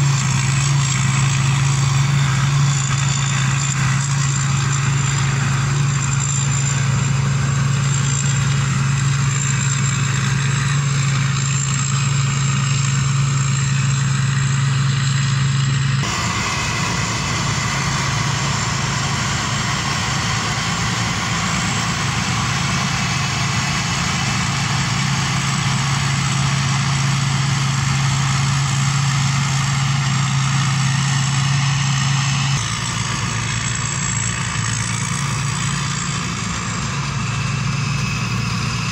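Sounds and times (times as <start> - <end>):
machinery noise: 0.0 - 15.2, 16.0 - 38.9
combine harvester engine drone: 0.0 - 38.9.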